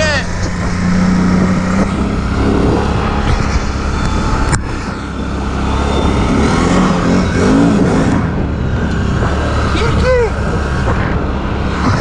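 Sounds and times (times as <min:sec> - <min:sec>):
all-terrain vehicle engine running: 0:00.0 - 0:12.0.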